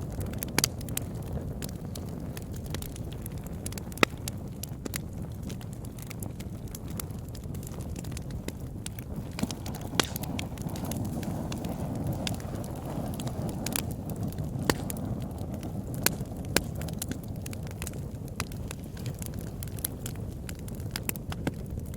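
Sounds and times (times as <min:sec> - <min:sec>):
wood fire crackling and popping: 0:00.0 - 0:21.9.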